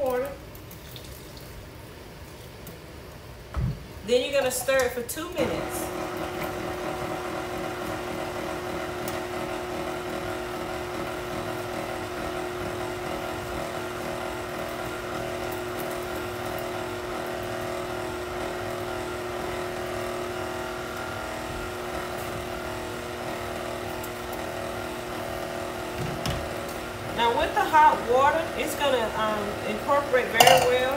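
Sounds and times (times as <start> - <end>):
stand mixer motor humming: 5.4 - 30.9.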